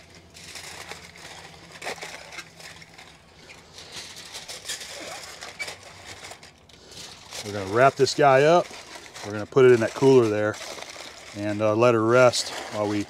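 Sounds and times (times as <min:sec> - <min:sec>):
aluminum foil crinkling: 0:00.0 - 0:13.0.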